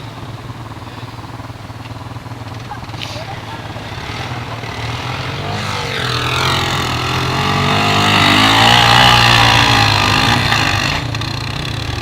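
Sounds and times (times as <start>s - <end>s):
quad bike engine revving past: 0.0s - 12.0s.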